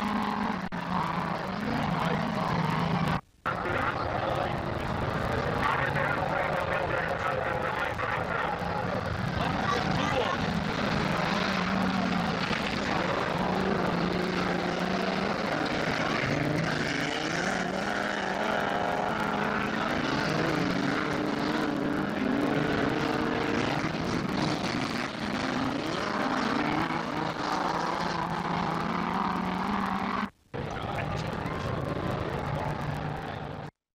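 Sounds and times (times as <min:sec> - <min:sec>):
racing car engines droning: 0:00.0 - 0:33.7.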